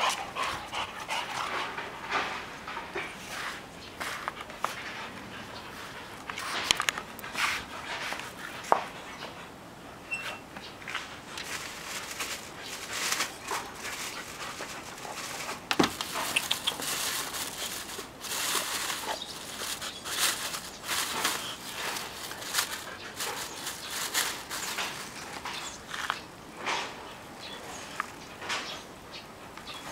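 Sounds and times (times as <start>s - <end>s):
dogs scuffling and snuffling: 0.0s - 29.9s.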